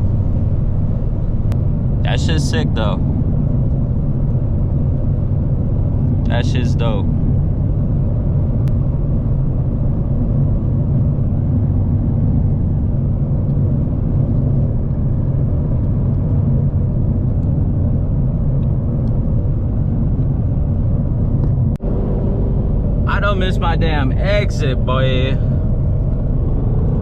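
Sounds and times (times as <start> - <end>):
car engine cruising drone: 0.0 - 27.0
road noise: 0.0 - 27.0.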